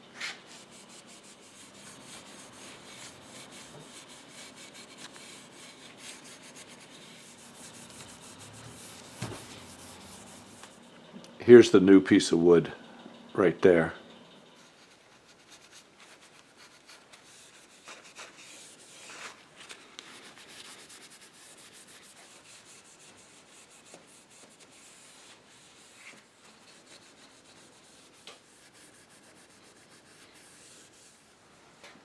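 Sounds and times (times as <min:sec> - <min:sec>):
steel wool rubbing on wood: 0:00.2 - 0:10.9, 0:14.6 - 0:31.3.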